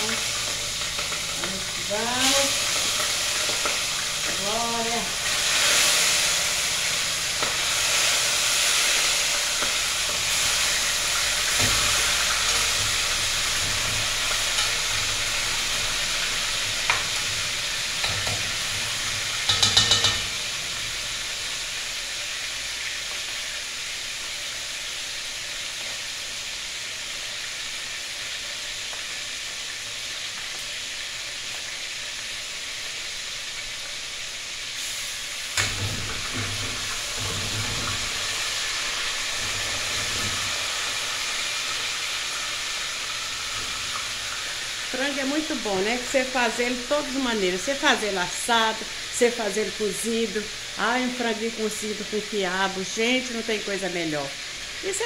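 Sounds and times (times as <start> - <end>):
chicken frying in hot oil: 0.0 - 55.0.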